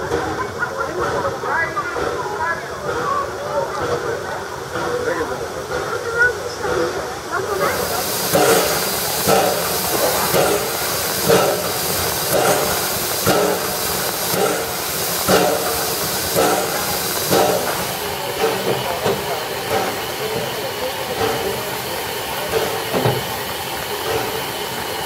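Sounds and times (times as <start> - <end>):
steam hissing from locomotive: 0.0 - 25.0.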